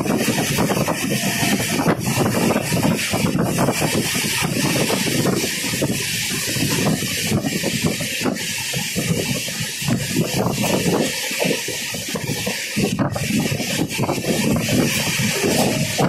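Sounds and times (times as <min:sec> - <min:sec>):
train wheel-on-rail noise: 0:00.0 - 0:16.0
wind rush: 0:00.0 - 0:16.0.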